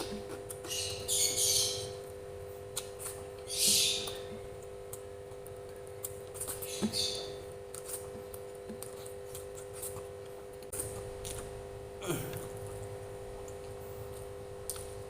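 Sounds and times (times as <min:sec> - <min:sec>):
low electrical hum: 0:00.0 - 0:15.0
person chewing food: 0:02.5 - 0:15.0.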